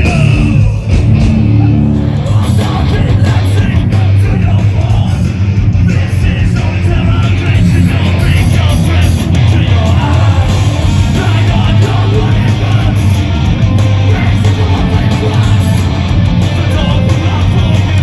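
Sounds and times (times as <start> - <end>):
live heavy band playing: 0.0 - 18.0.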